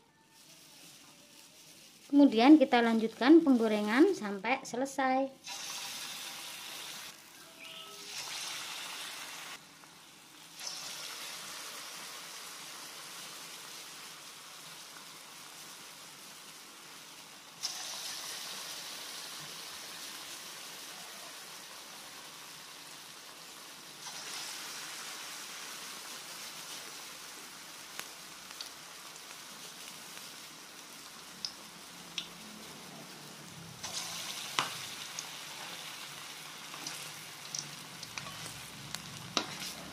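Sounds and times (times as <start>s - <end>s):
deep-frying sizzle in oil: 5.4s - 39.9s.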